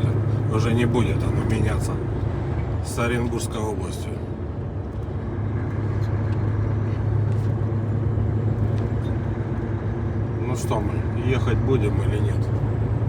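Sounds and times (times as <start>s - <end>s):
truck engine drone in cab: 0.0s - 13.0s.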